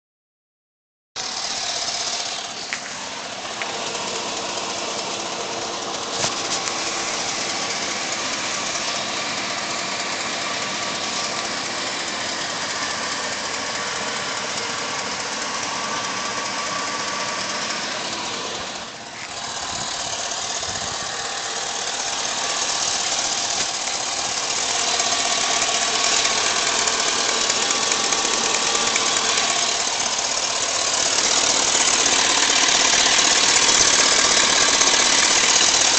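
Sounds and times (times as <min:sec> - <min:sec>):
car engine running: 0:01.2 - 0:35.9
engine knocking: 0:01.2 - 0:35.9.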